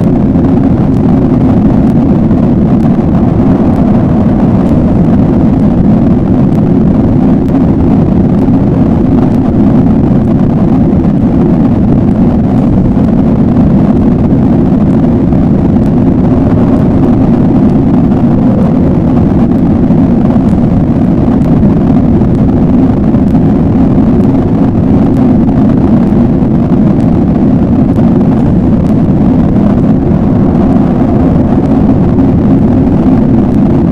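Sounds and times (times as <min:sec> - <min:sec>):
low rumbling drone: 0:00.0 - 0:33.9.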